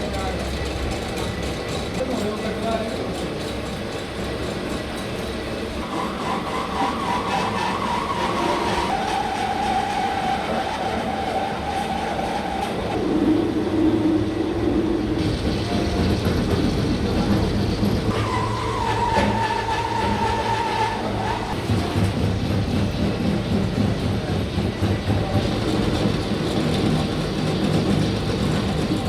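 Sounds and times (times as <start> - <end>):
workshop machinery humming: 0.0 - 29.0.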